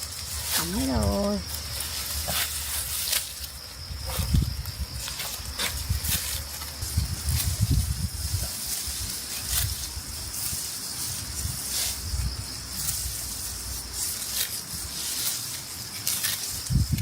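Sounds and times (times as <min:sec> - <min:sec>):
dry rice stalks rustling: 0:00.0 - 0:17.0.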